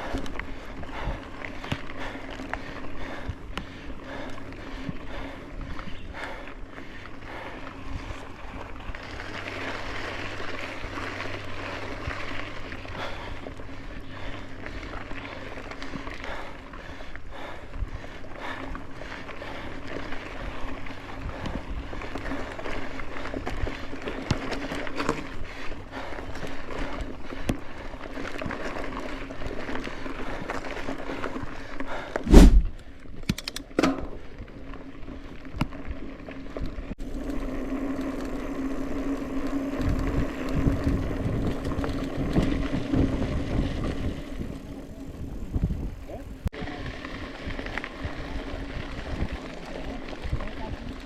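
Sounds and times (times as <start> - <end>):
bike rattling: 0.0 - 51.0
bike tyre noise on trail: 0.0 - 51.0.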